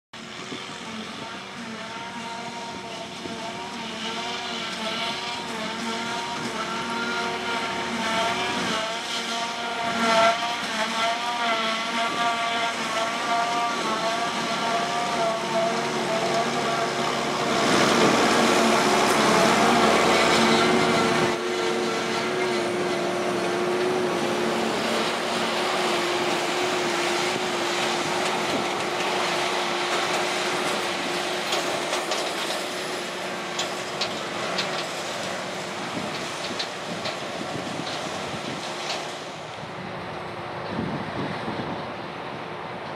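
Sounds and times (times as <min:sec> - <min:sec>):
harvester engine whining under load: 0:00.2 - 0:42.9
tractor passing close: 0:00.2 - 0:42.9.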